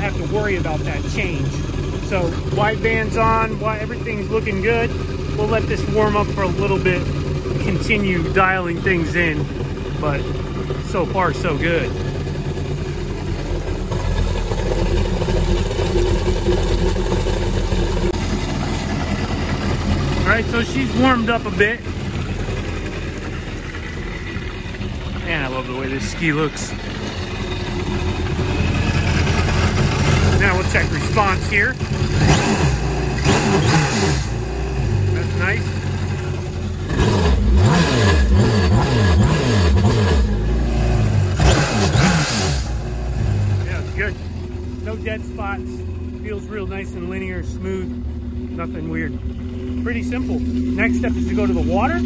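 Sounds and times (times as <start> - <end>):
jet ski engine idling: 0.0 - 52.0.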